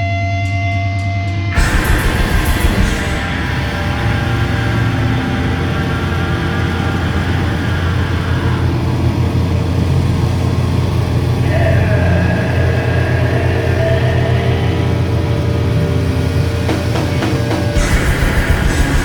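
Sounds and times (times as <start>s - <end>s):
heavy band low drone: 1.3s - 19.0s
amplifier feedback tones: 1.5s - 19.0s.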